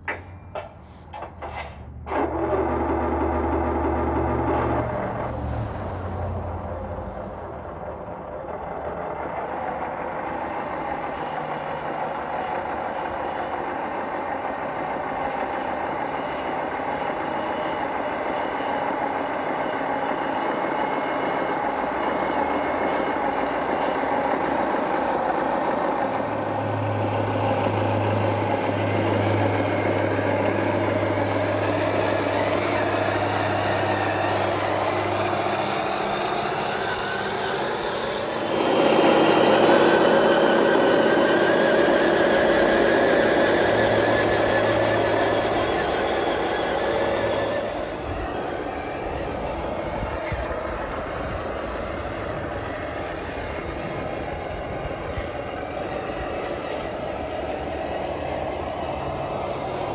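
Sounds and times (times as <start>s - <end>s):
toy truck motor running: 8.3s - 59.9s.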